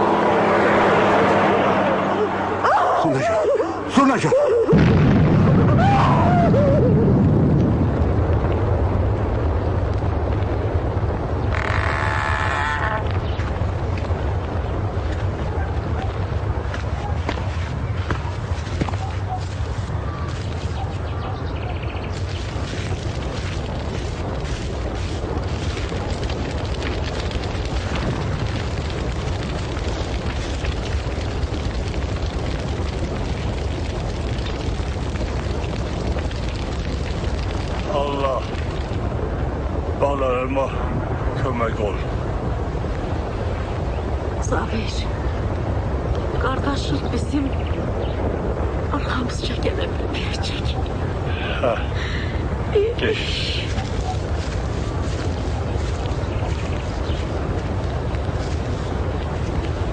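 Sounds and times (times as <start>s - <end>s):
large fire crackling: 0.0s - 59.9s
explosion rumble: 3.9s - 59.9s.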